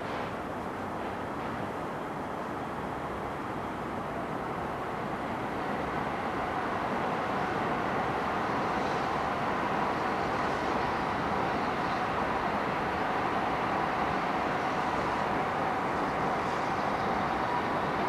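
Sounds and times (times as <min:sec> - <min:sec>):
city noise: 0:00.0 - 0:18.0
train rumbling past: 0:00.0 - 0:18.0.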